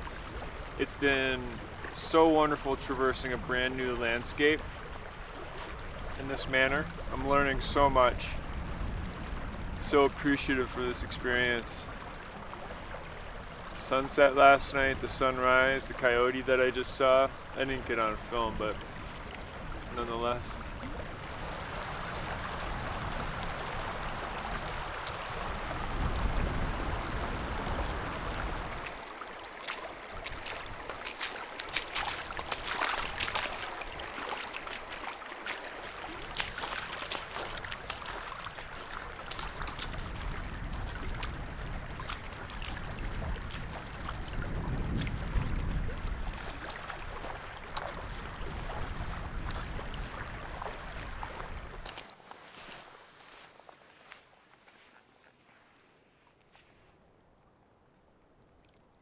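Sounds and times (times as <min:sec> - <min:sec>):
low water rumble: 0:00.0 - 0:52.3
small water splashes: 0:00.0 - 0:54.5, 0:58.3 - 0:59.0
river water rippling: 0:00.0 - 0:59.0.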